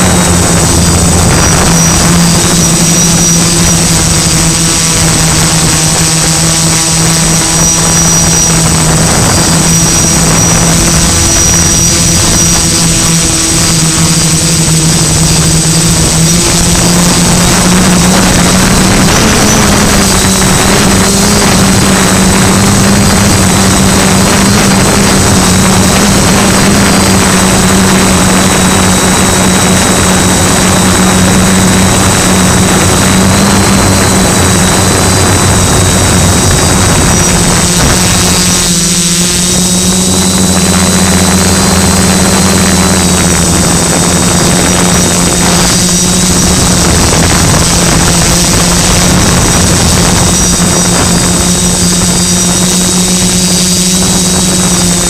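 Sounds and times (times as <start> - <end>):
drone motors buzzing hum: 0.0 - 55.0.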